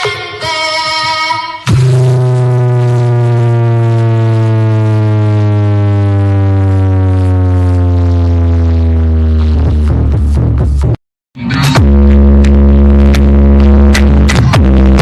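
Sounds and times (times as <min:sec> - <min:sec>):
deep bass sweep: 0:01.7 - 0:15.0.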